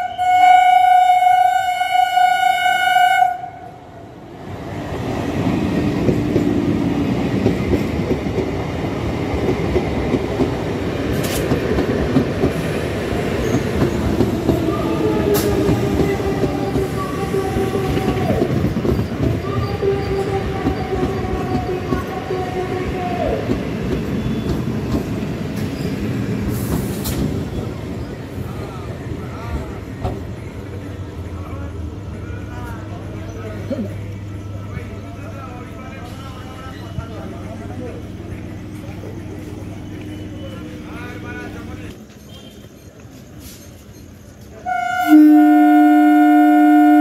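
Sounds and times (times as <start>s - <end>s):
train wheels rumbling on rails: 4.2s - 47.0s.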